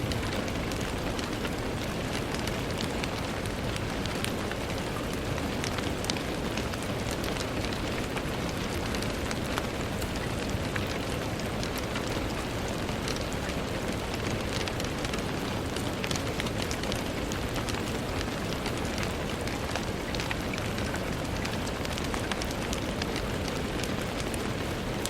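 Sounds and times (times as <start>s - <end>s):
rain pattering on window: 0.0s - 25.0s.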